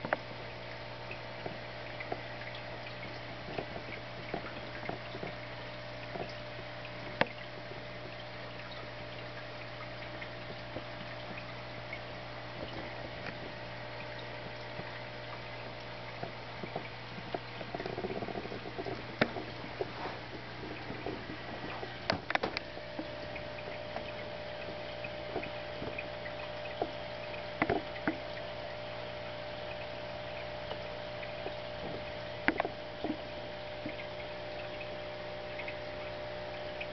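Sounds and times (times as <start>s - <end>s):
aquarium pump humming: 0.0s - 36.9s
bubbling trickling water: 0.0s - 36.9s.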